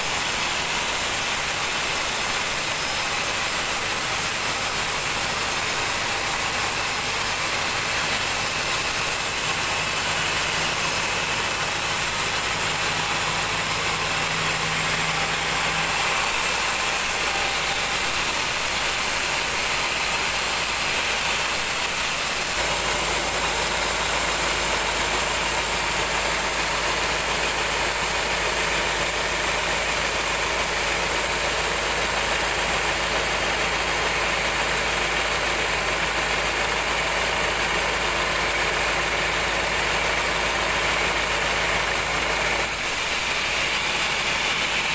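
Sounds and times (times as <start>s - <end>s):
band sawmill cutting log: 0.0s - 44.9s.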